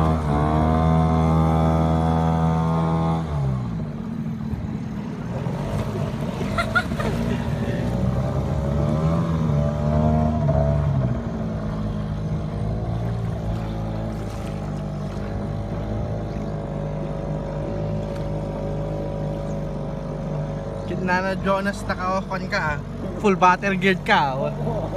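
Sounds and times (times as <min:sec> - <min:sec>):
motorboat engine running: 0:00.0 - 0:24.9.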